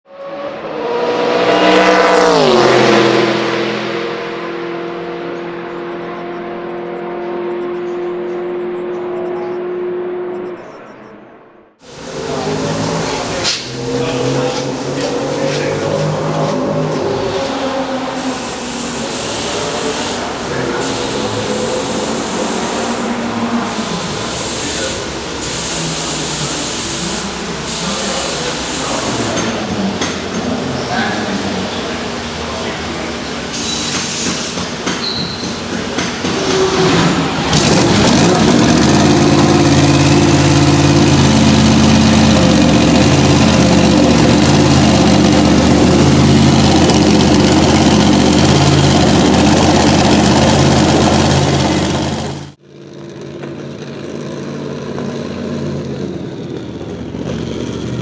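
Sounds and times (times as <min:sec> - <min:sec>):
race car engine passing at speed: 0:00.1 - 0:34.9, 0:35.9 - 0:52.6
voices: 0:04.6 - 0:52.4.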